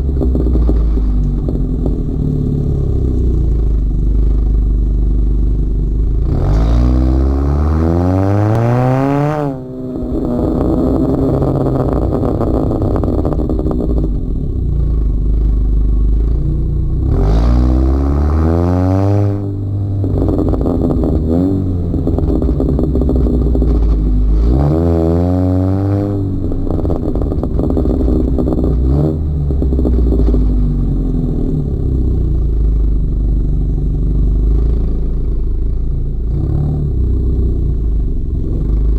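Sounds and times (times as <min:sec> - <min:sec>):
car exhaust revving: 0:00.0 - 0:38.9.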